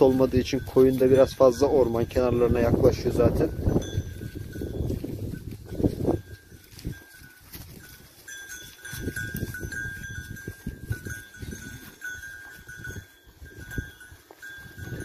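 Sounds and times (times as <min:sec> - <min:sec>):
sheep bell tinkling: 0:00.0 - 0:15.0.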